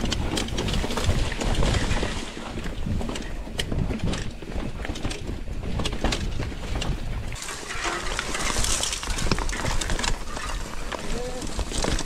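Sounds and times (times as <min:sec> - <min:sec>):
bike rattling and clicking: 0:00.0 - 0:12.0
bike tyres rumbling on dirt: 0:00.0 - 0:12.0.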